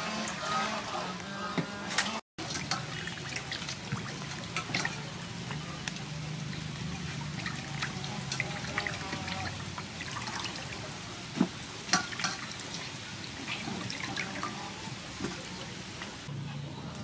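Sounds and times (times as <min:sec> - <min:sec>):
water splashing in a bowl: 0:02.0 - 0:16.3.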